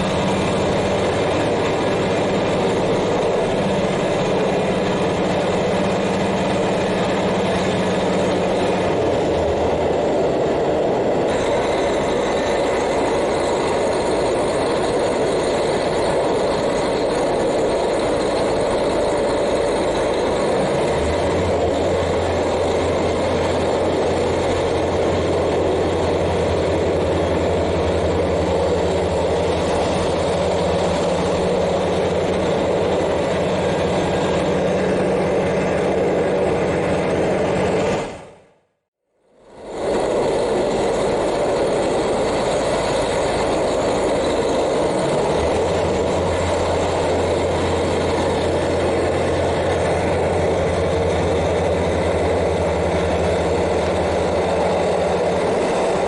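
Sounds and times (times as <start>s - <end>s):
diesel railcar engine running: 0.0s - 56.0s
train running on rails: 0.0s - 56.0s.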